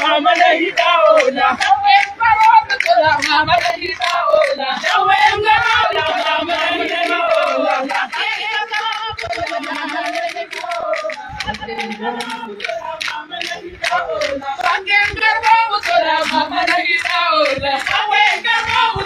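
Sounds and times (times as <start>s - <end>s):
crowd chanting and singing: 0.0s - 19.0s.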